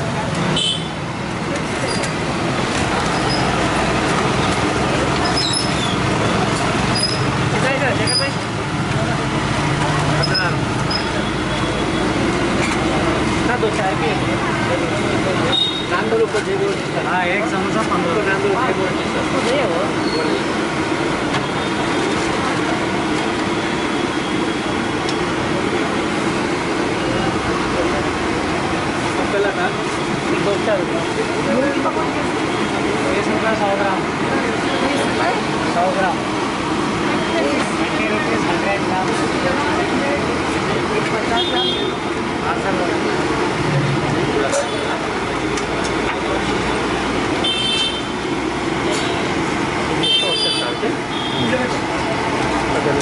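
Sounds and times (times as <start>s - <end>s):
street traffic hum: 0.0s - 53.0s.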